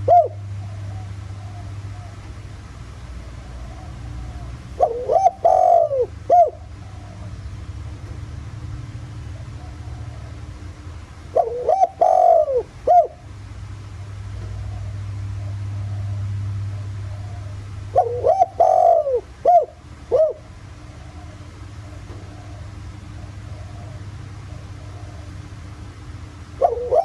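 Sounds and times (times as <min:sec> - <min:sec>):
dove cooing: 0:00.0 - 0:07.5, 0:09.2 - 0:13.3, 0:14.3 - 0:25.8, 0:26.4 - 0:27.0.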